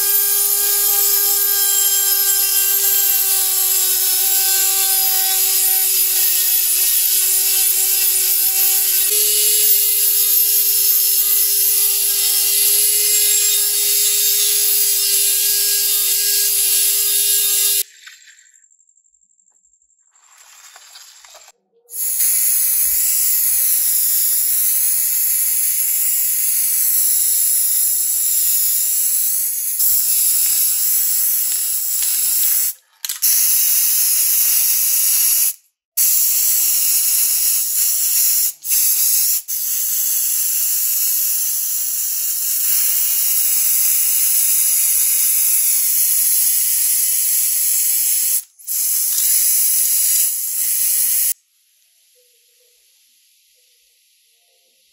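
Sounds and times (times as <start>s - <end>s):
spray paint can hissing: 0.0s - 17.9s, 22.0s - 51.4s.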